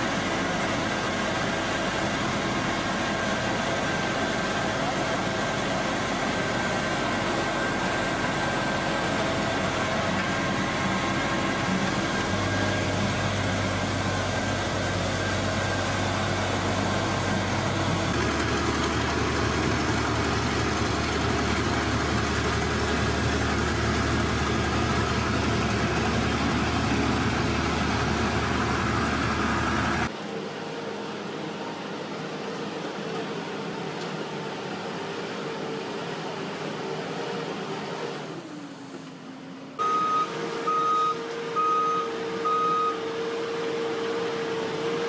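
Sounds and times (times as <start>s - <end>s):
construction machinery engines droning: 0.0s - 45.0s.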